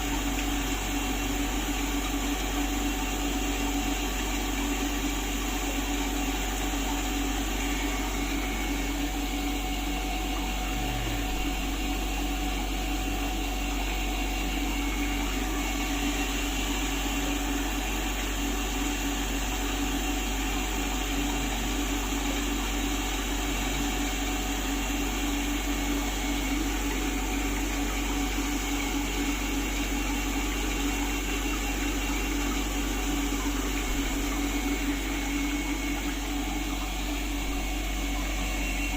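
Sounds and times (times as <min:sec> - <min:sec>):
humidifier running: 0:00.0 - 0:38.9.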